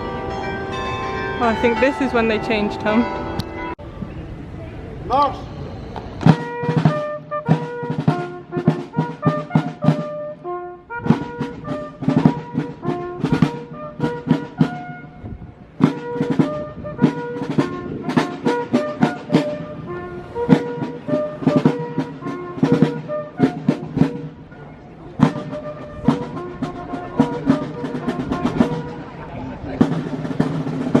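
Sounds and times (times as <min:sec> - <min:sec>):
military band playing a march: 0:06.2 - 0:31.0.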